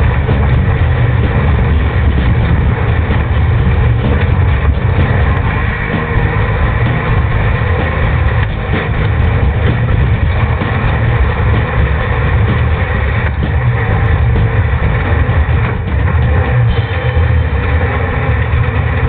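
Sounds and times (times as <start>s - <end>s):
off-road vehicle engine droning: 0.0s - 19.0s.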